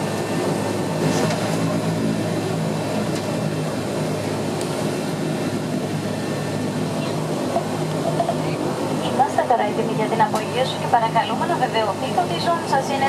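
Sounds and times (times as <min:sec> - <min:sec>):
turboprop engines droning: 0:00.0 - 0:13.0.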